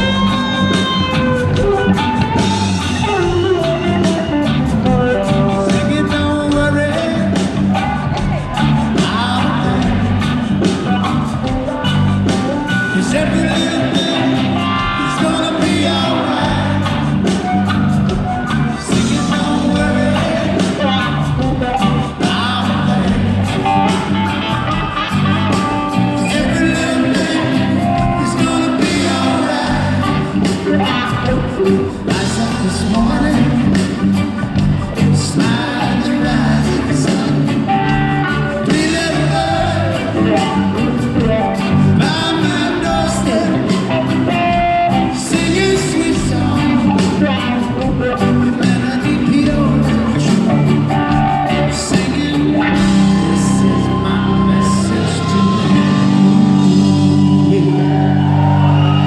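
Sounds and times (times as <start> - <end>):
lead singer vocals: 0.0 - 59.0
live rock band playing: 0.0 - 59.0.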